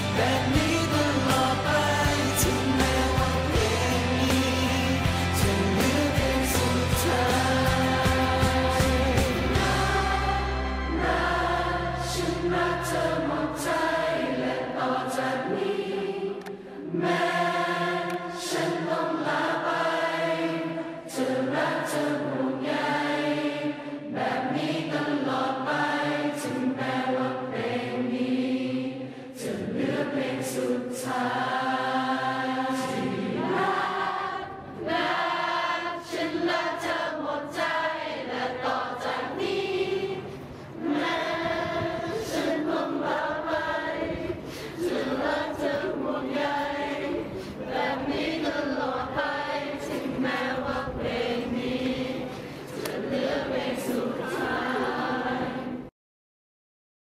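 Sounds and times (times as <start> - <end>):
group of voices singing: 0.0 - 55.9.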